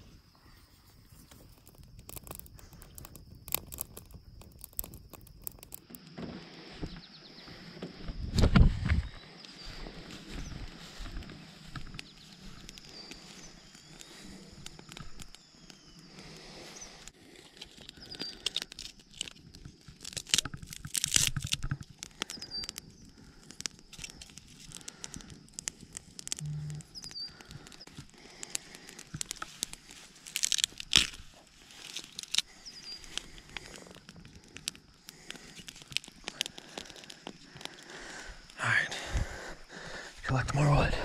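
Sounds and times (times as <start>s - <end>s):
campfire crackling and popping: 0.0s - 6.9s, 8.4s - 41.0s.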